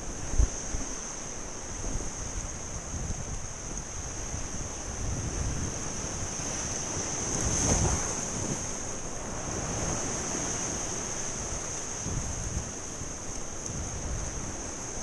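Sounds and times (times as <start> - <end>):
surf breaking over rocks: 0.0 - 15.0
wind buffeting microphone: 1.6 - 15.0.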